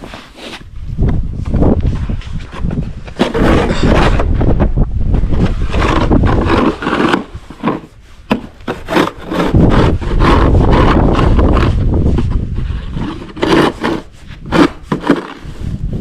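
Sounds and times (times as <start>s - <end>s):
shovel scraping snow: 0.0s - 0.7s, 2.0s - 4.3s, 5.4s - 16.0s.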